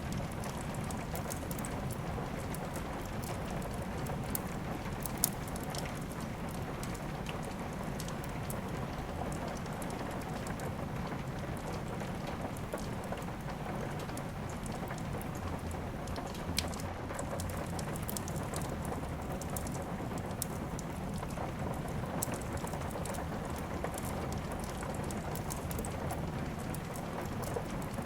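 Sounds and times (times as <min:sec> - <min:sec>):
steady rain hiss: 0:00.0 - 0:28.0
wood fire crackling and popping: 0:00.0 - 0:28.0.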